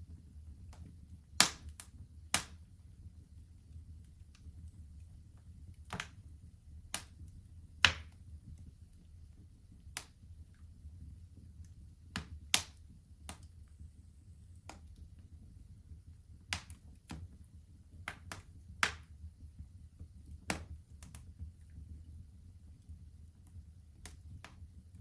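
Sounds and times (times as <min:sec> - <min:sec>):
fire crackling in fireplace: 0:00.0 - 0:25.0.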